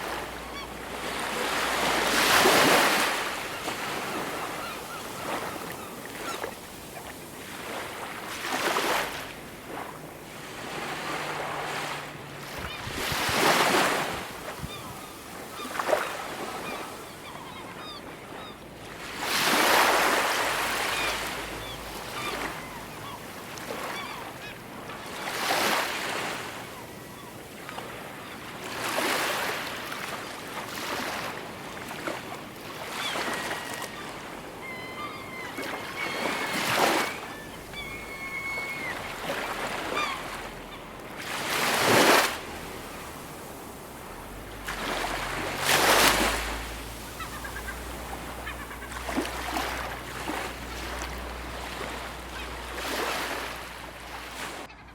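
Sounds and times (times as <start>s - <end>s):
bird calling: 0.0s - 7.9s, 12.5s - 18.7s, 19.4s - 28.0s, 32.8s - 54.9s
ocean waves breaking on shore: 0.0s - 54.9s.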